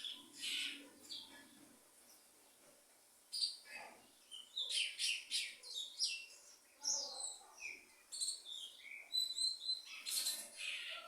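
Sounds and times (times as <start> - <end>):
songbirds chirping and singing: 0.0 - 2.7, 3.4 - 11.0.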